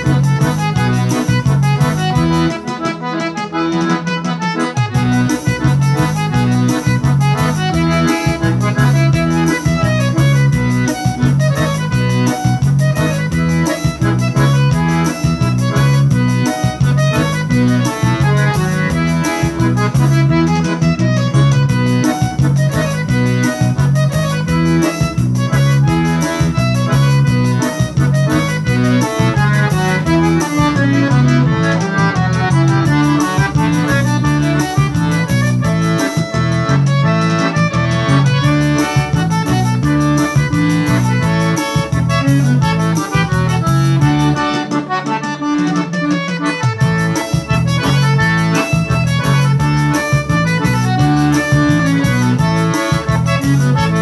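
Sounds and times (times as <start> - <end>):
accordion playing folk tune: 0.0 - 54.0.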